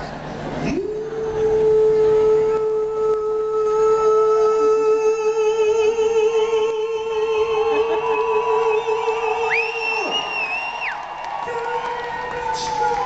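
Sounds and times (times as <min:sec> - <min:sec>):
person singing a long high note: 0:00.7 - 0:10.3, 0:11.4 - 0:13.0.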